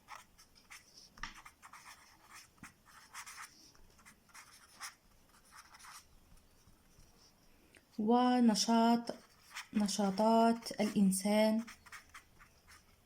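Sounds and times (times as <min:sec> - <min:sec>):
pen scratching while writing: 0:00.0 - 0:07.3, 0:09.1 - 0:13.0.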